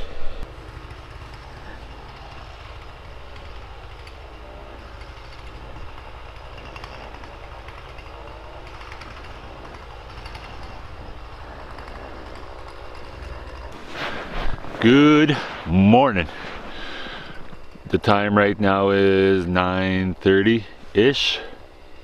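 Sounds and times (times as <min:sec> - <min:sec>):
engine pulsing rumble: 0:00.0 - 0:22.0.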